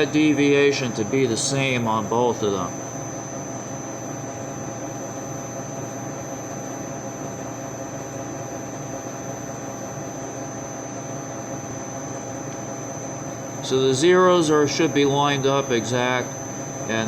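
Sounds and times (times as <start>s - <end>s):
faint high whine: 0.0s - 17.0s
room tone hum and hiss: 0.0s - 17.0s.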